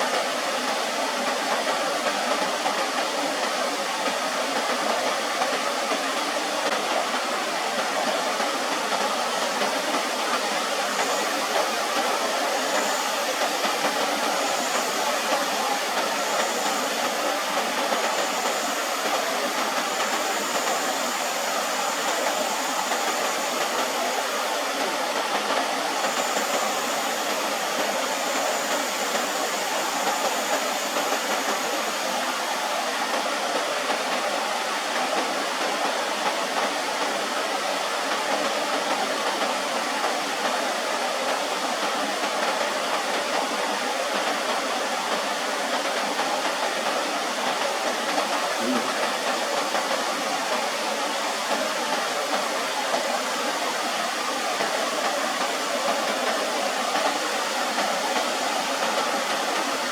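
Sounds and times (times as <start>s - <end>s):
steady rushing hiss: 0.0s - 59.9s.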